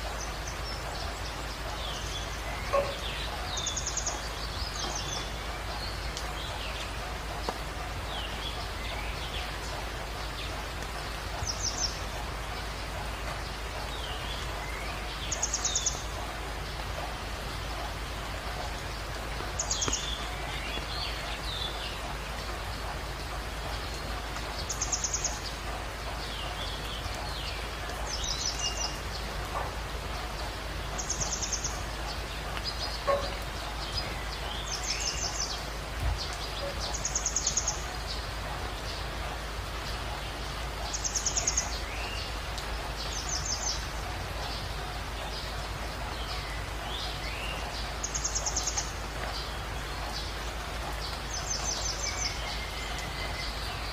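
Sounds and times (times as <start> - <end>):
forest stream running: 0.0 - 53.9
rain: 0.0 - 53.9.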